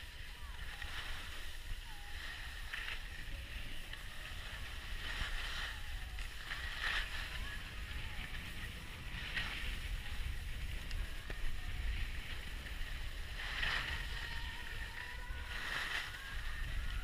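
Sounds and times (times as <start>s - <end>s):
skis sliding over snow: 0.0s - 17.0s
wind rumble on microphone: 0.0s - 17.0s.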